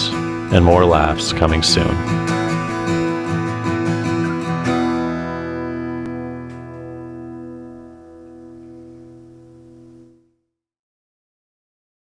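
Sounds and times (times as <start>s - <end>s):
acoustic guitar strumming: 0.0s - 10.3s.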